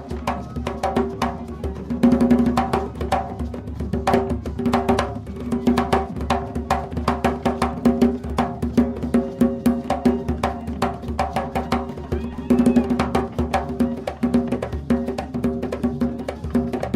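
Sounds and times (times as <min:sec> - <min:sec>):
drum-driven folk music: 0:00.0 - 0:16.9.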